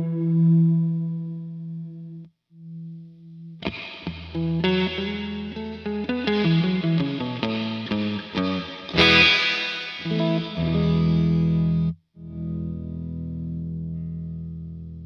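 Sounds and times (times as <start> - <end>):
overdriven electric guitar: 0.0 - 15.0.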